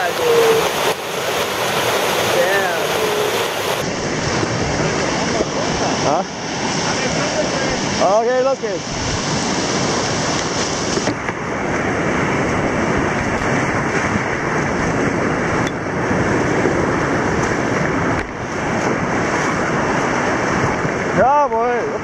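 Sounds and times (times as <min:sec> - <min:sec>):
river rapids rushing and splashing: 0:00.0 - 0:22.0.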